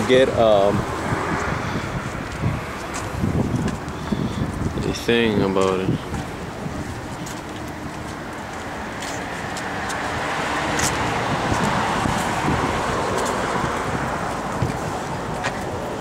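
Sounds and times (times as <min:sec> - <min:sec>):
car passing by: 0:00.0 - 0:04.5, 0:07.4 - 0:16.0.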